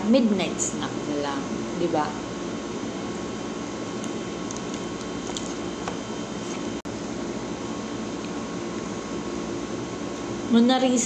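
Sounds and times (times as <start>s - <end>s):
droning room noise: 0.0s - 11.0s.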